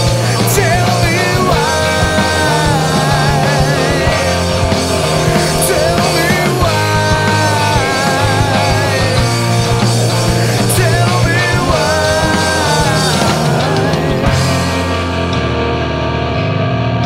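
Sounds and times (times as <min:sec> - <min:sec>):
drum hits and cymbals: 0:00.0 - 0:15.2
rock band music: 0:00.0 - 0:17.0.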